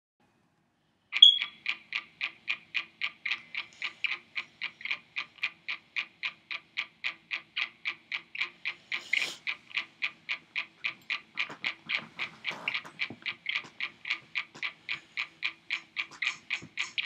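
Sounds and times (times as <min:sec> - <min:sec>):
rapid even ticking: 0:01.2 - 0:17.0.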